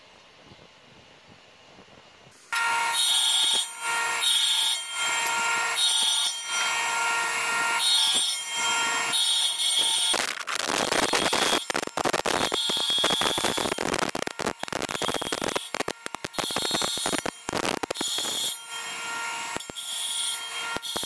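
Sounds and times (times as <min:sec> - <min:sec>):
saw blade cutting wood: 0:02.5 - 0:21.0
table saw whining: 0:02.5 - 0:21.0.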